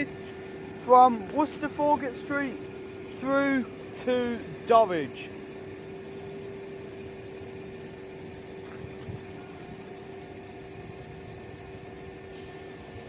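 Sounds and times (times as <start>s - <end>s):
diesel train engine hum: 0.0s - 13.0s.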